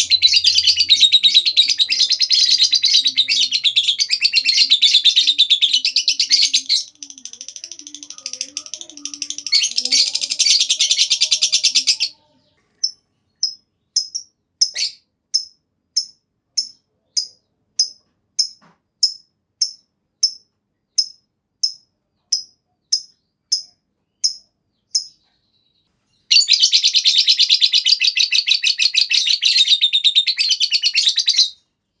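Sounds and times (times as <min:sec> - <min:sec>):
lovebird trilling and chirping: 0:00.0 - 0:31.6.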